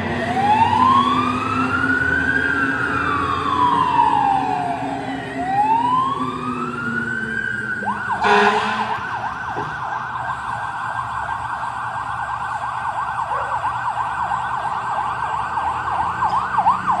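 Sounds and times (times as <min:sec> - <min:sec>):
fire engine siren yelping: 0:00.0 - 0:17.0
truck engine hum: 0:00.0 - 0:17.0.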